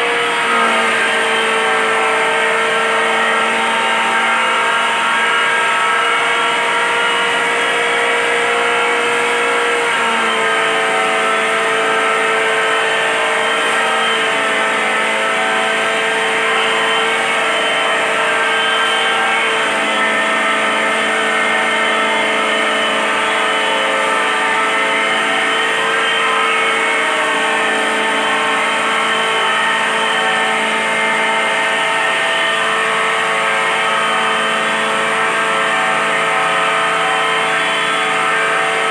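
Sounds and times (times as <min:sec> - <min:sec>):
electric grinder whining: 0:00.0 - 0:38.9.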